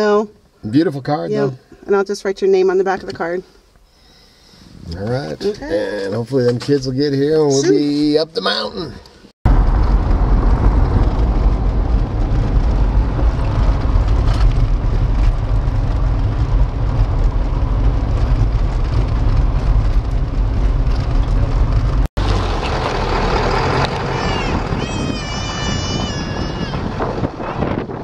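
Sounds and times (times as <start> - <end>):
truck engine and tyres rumbling: 4.6 - 28.0.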